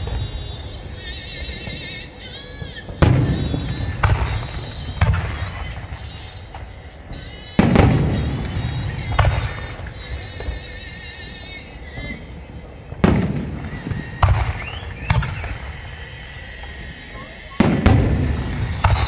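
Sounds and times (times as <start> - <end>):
fireworks booming overhead: 0.0 - 19.0.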